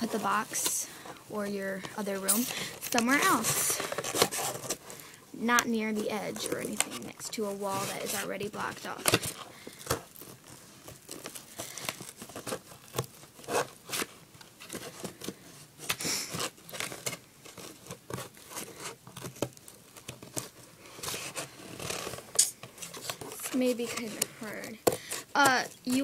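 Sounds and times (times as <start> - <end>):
cardboard tearing: 0.0 - 1.0, 1.8 - 5.2, 5.8 - 26.0.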